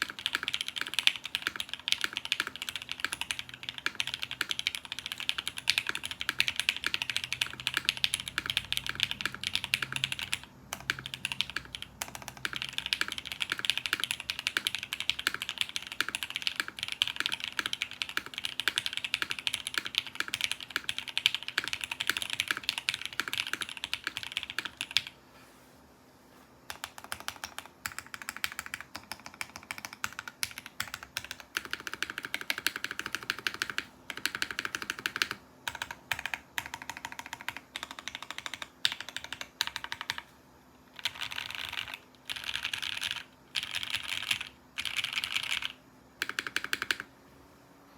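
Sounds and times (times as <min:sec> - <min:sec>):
typing on mechanical keyboard: 0:00.0 - 0:25.1, 0:26.7 - 0:40.3, 0:40.9 - 0:47.1.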